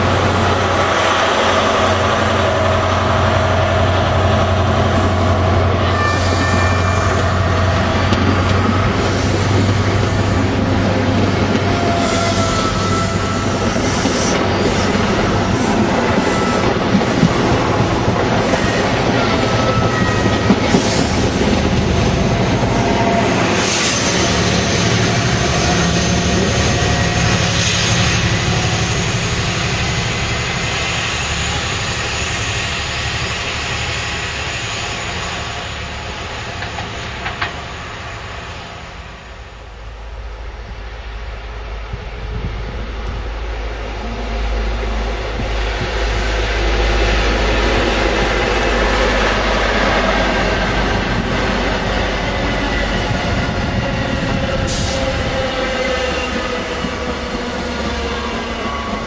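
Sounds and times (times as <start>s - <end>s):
train wheels rushing and clacking: 0.0s - 39.3s, 41.5s - 59.0s
train wheel squeals: 0.8s - 39.3s, 46.0s - 59.0s.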